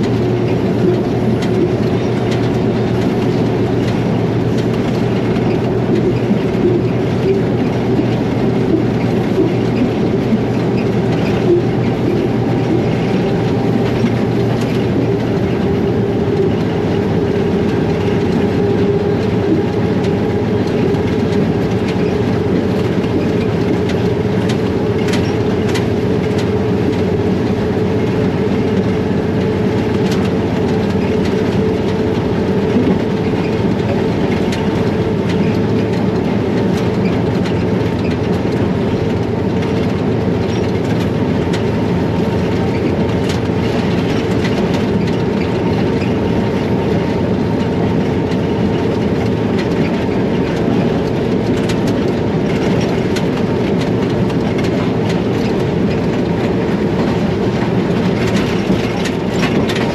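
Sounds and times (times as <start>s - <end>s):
locomotive engine drone: 0.0s - 59.9s
wheels clicking over rail joints: 0.0s - 59.9s.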